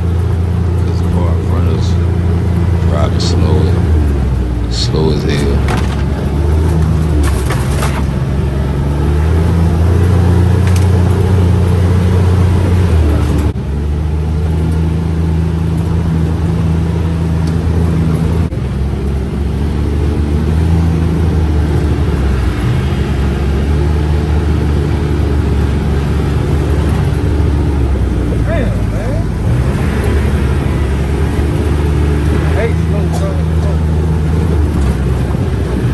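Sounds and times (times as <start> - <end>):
utility vehicle engine driving: 0.0 - 35.9.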